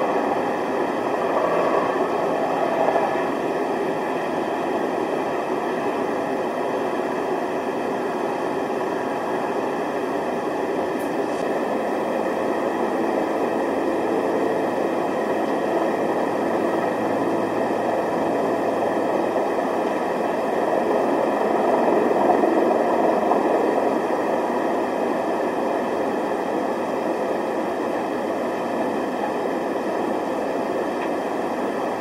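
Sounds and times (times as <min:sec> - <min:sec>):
steady rushing outdoor noise: 0:00.0 - 0:32.0.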